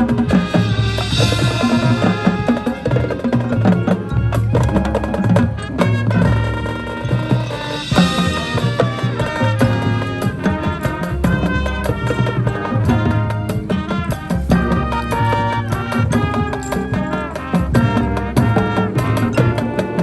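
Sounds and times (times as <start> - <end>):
drum line: 0.0 - 20.0
sharp drum and wood-block strokes: 0.0 - 20.0
wind and brass chords: 0.0 - 20.0.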